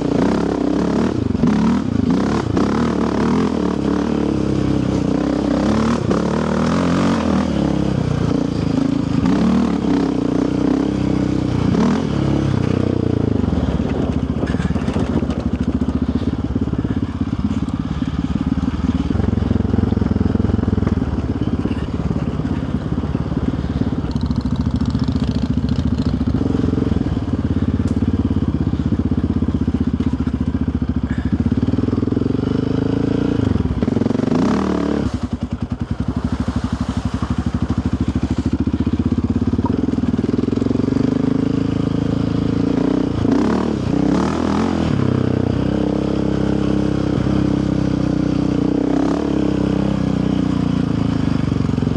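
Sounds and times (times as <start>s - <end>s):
quad bike engine revving: 0.0s - 51.9s.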